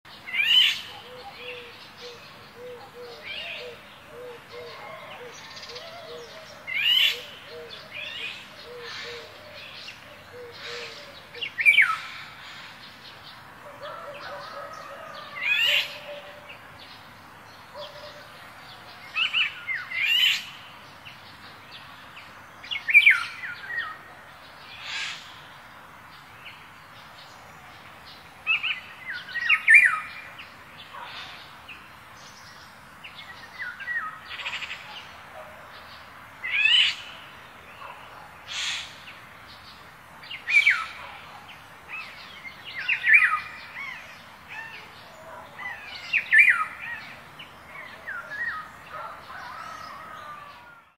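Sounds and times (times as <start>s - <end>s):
songbirds chirping: 0.0s - 50.9s
steady background hiss: 0.1s - 50.9s.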